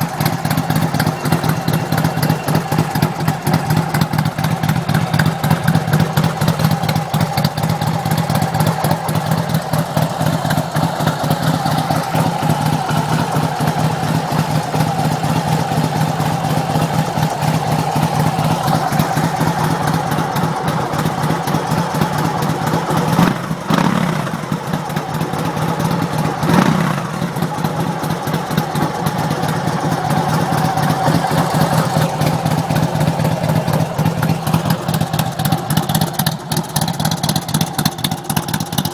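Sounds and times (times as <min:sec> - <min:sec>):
engine revving blips: 0:00.0 - 0:06.5, 0:10.2 - 0:35.0
motorcycle engine idling: 0:00.0 - 0:38.9.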